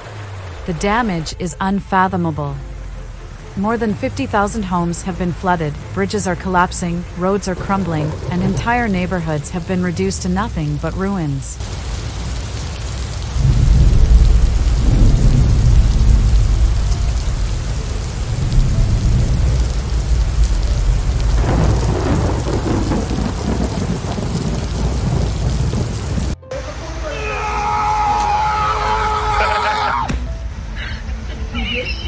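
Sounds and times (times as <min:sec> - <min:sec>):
thunder rumbling: 0:00.0 - 0:29.5
heavy rain: 0:00.0 - 0:32.0.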